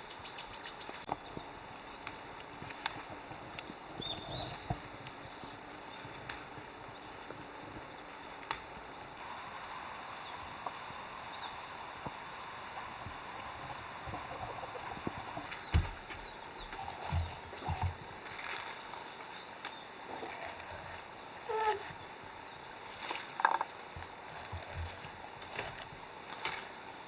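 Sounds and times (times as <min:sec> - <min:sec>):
insects chorus: 0:00.0 - 0:25.7.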